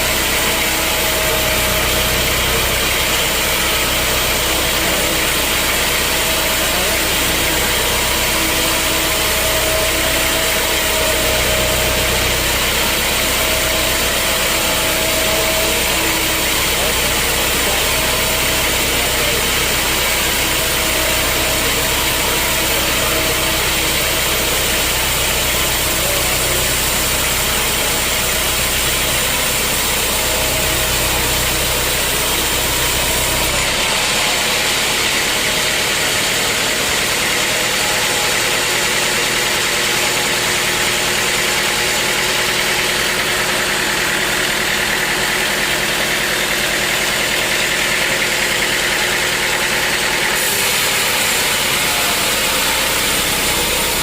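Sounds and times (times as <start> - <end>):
high-pitched machine noise: 0.0 - 54.0
sawmill machinery running: 0.0 - 54.0.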